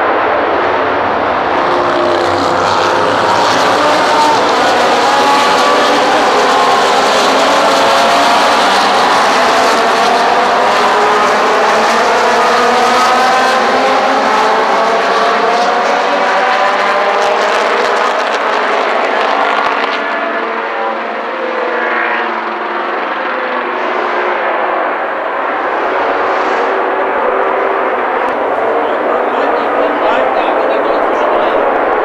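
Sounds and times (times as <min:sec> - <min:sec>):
racing car engines revving: 0:00.0 - 0:32.0.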